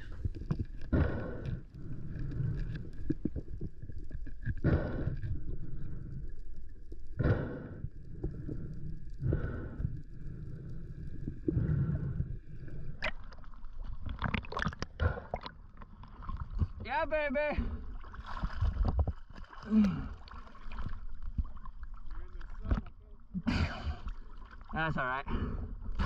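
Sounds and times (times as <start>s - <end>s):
water splashing: 0.0s - 25.3s
underwater water sloshing: 0.0s - 26.0s.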